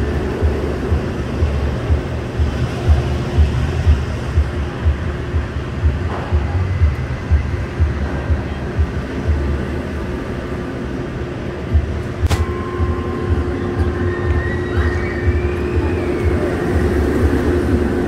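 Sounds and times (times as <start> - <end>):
roller coaster train rumbling on track: 0.0 - 18.0
steady hum: 0.0 - 18.0.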